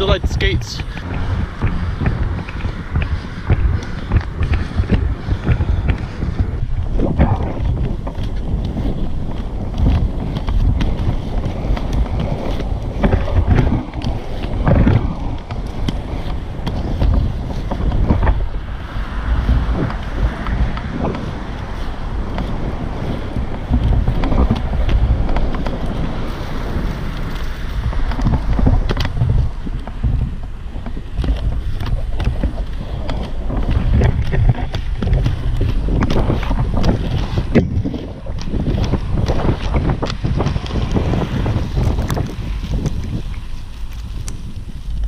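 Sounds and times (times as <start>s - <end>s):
inline skate wheels rumbling: 0.0s - 45.0s
wind buffeting microphone: 0.0s - 45.0s.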